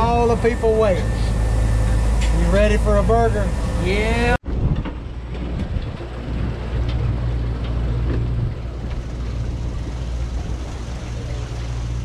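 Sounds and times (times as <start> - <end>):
sea noise: 0.0 - 4.4, 5.4 - 12.0
boat engine droning: 0.0 - 12.0
wind: 0.0 - 12.0.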